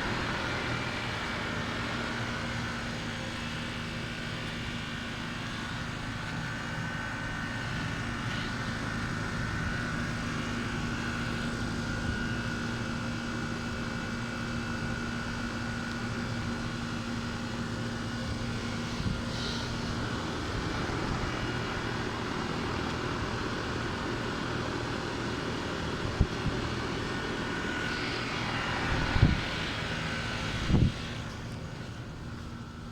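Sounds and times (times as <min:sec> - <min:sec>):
air conditioner fan drone: 0:00.0 - 0:32.9.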